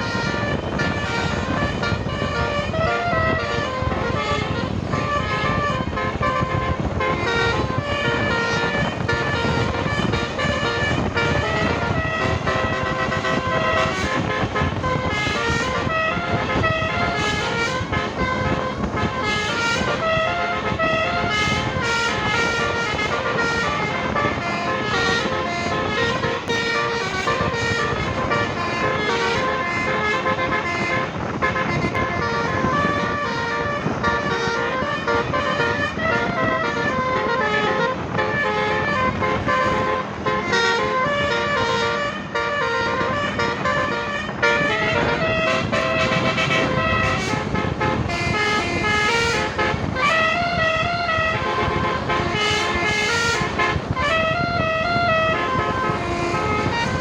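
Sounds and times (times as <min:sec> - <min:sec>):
multi-tone bus horn tune: 0:00.0 - 0:57.0.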